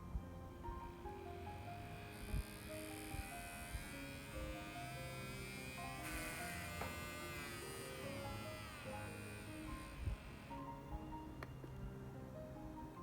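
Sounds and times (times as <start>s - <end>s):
background music: 0.0s - 13.0s
model train motor whining: 0.5s - 12.4s.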